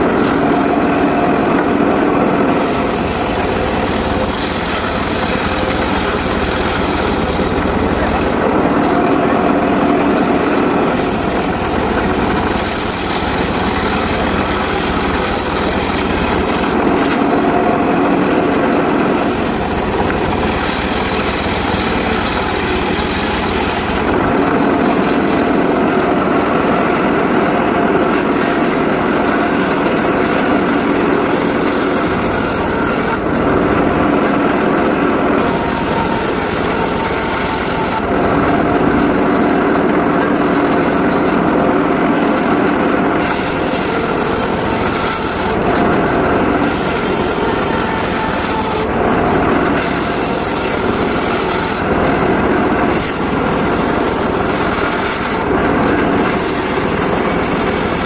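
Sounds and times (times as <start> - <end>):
circular saw running: 0.0 - 58.0
saw hissing through wood: 0.0 - 58.0.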